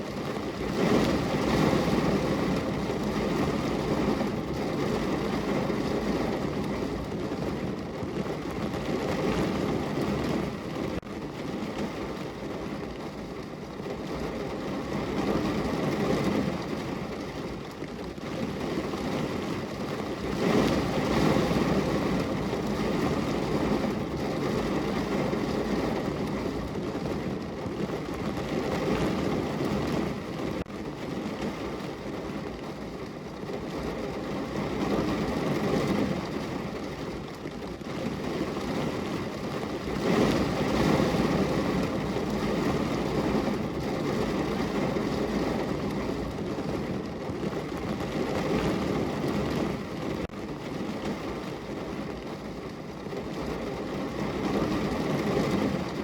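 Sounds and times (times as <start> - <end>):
heavy rain on car roof: 0.0 - 56.0.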